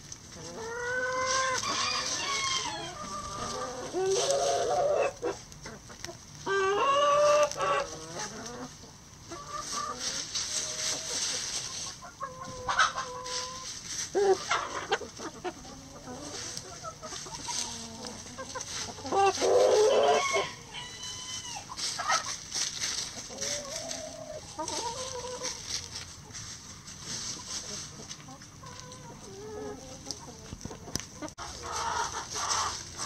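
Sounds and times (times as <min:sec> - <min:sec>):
birds scratching in dry leaves: 0:00.0 - 0:33.0
chickens clucking: 0:00.0 - 0:33.0.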